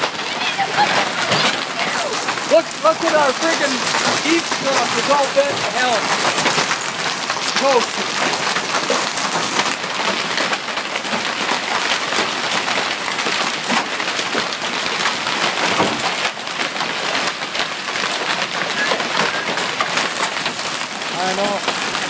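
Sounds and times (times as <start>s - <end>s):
hail clattering: 0.0s - 22.0s
rain: 0.0s - 22.0s.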